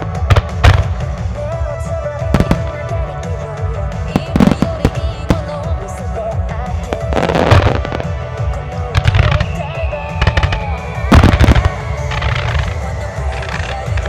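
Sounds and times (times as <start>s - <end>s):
fireworks bursting with bangs: 0.0s - 14.0s
fireworks crackling: 0.0s - 14.0s
music on loudspeakers: 0.0s - 14.0s.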